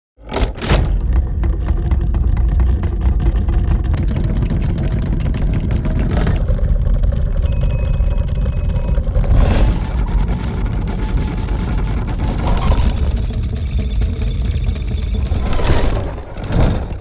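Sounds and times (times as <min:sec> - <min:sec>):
pitched mechanical whine: 0:00.3 - 0:17.0
low mechanical rumble: 0:00.7 - 0:16.9
fast clattering ticks: 0:01.0 - 0:17.0.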